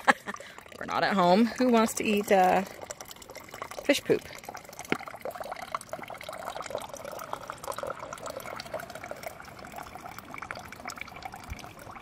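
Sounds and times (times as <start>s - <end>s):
water trickling into bottle: 0.0s - 12.0s.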